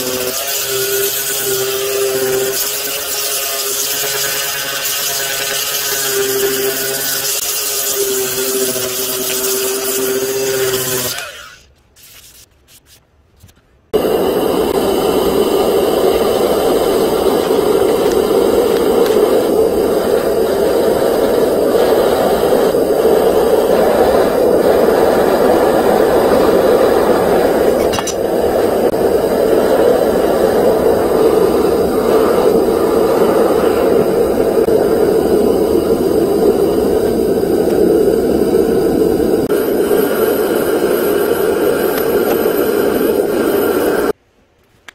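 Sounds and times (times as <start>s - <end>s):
gas forge burner rushing flame: 0.0s - 11.4s, 13.9s - 44.2s.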